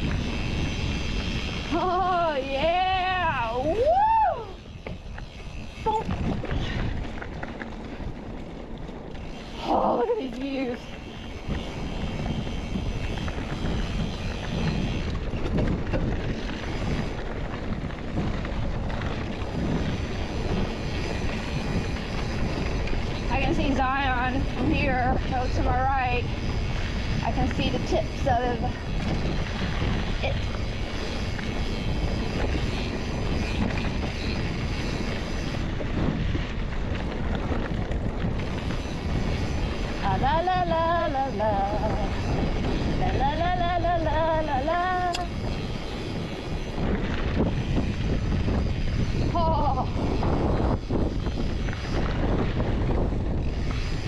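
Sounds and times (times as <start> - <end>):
bike clicks and rattles: 0.0 - 54.0
bike tyres rolling over dirt: 0.0 - 54.0
wind buffeting microphone: 0.0 - 54.0.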